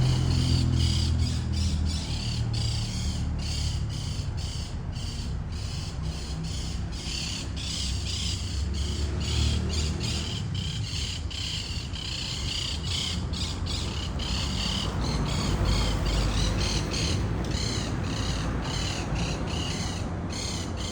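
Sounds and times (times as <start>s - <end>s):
birds squawking: 0.0s - 20.9s.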